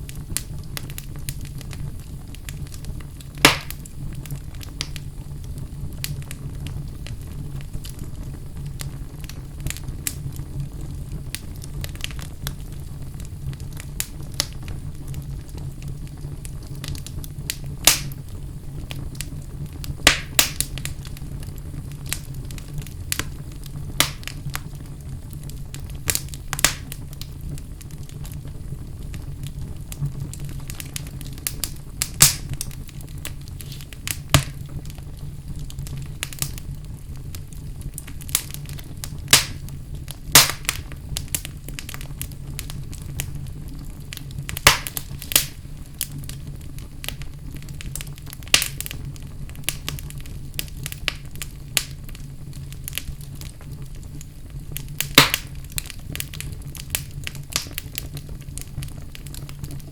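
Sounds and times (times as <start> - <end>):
fire rumbling: 0.0 - 59.9
wood fire crackling and popping: 0.0 - 59.9.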